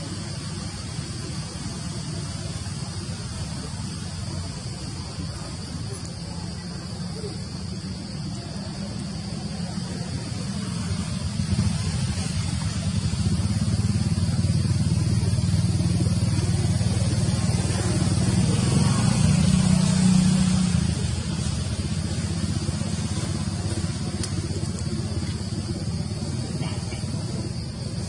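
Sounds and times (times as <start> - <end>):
high-pitched hiss: 0.0 - 28.0
vehicle engine humming: 0.0 - 28.0.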